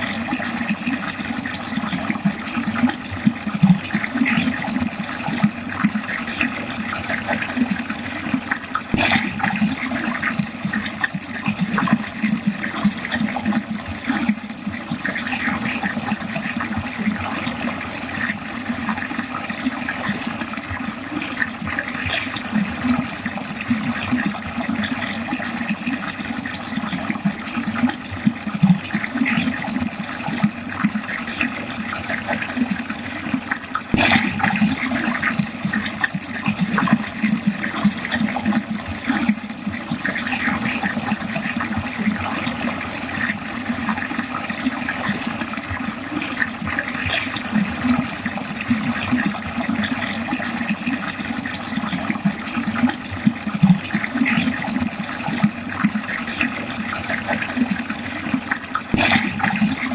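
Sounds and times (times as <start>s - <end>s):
water gurgling down a drain: 0.0s - 59.9s.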